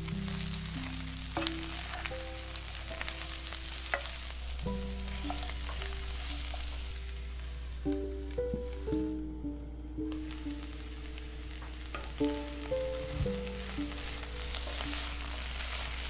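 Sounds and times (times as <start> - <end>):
food sizzling in frying pan: 0.0 - 9.2, 10.0 - 16.0
background music with held notes: 0.0 - 16.0.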